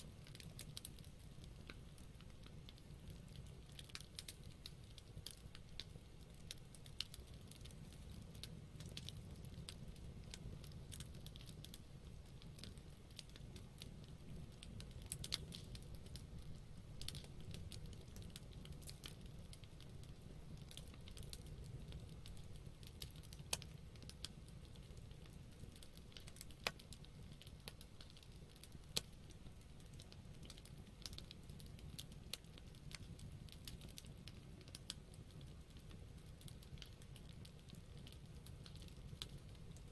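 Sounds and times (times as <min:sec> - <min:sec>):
campfire crackling and popping: 0:00.0 - 0:39.9
low rush of flames: 0:00.0 - 0:39.9.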